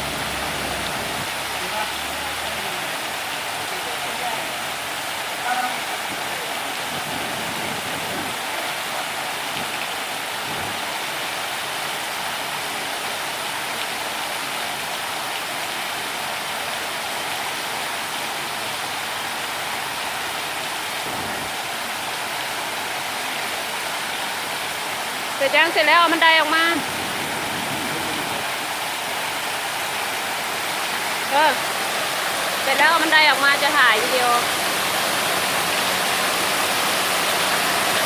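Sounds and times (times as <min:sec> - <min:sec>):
water falling over rocks: 0:00.0 - 0:38.0.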